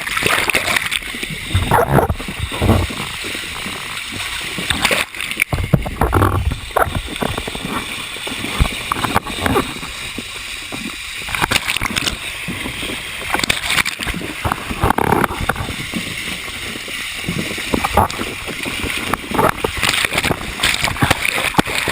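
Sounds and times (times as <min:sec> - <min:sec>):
water splashes: 0:00.0 - 0:21.9
whirlpool water sloshing and gurgling: 0:00.0 - 0:21.9.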